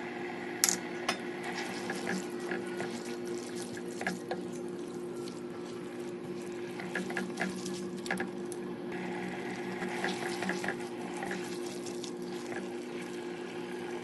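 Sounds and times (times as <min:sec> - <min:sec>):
steady low hum: 0:00.0 - 0:14.0
water running from tap: 0:01.4 - 0:14.0.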